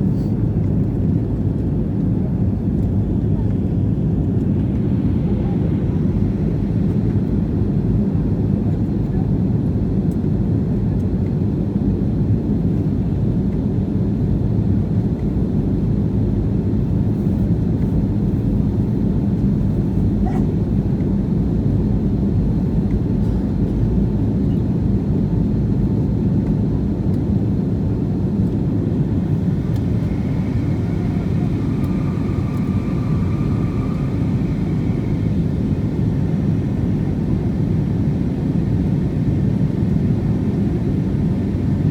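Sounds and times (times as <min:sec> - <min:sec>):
jet engines roaring in cabin: 0:00.0 - 0:41.9.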